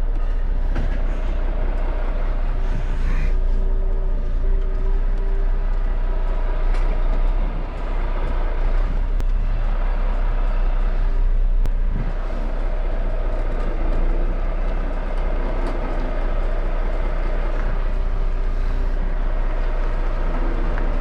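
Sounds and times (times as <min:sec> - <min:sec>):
road and cab noise: 0:00.0 - 0:21.0
truck diesel engine rumble: 0:00.0 - 0:21.0.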